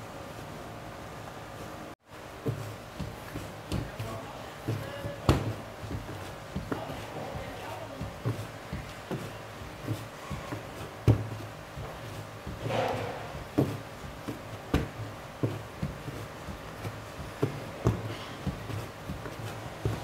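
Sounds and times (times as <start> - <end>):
dough kneaded with dull thuds: 0.0 - 20.0.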